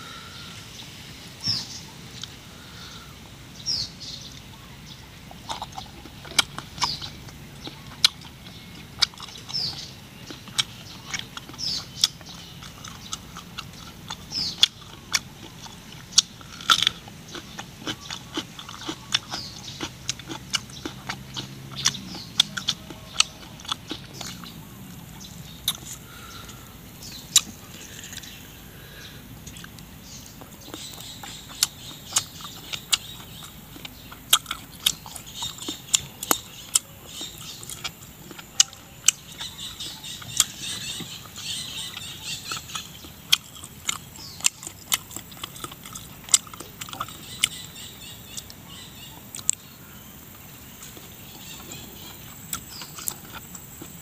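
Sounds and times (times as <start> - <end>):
person chewing crunchy food: 4.3 - 54.0.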